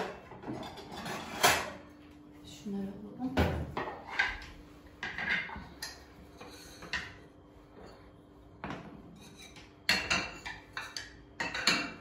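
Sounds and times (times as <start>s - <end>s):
dishes knocking and clinking: 0.0s - 1.8s, 3.3s - 12.0s
clatter of dishes: 0.0s - 1.9s, 3.3s - 12.0s.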